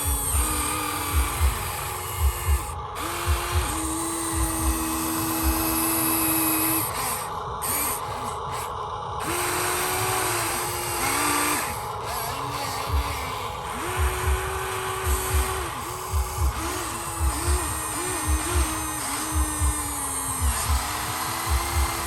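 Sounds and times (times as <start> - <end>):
small electric motors whining: 0.0 - 22.0.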